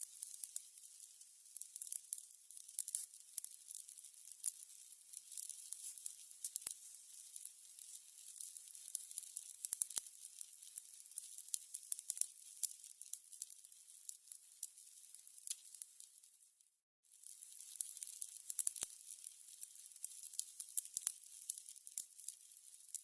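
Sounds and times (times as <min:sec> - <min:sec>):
candles crackling: 0:00.0 - 0:23.0.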